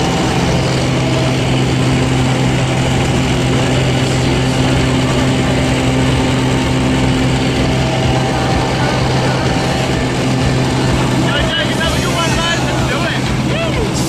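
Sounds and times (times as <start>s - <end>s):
plane engine and propeller droning: 0.0s - 14.0s.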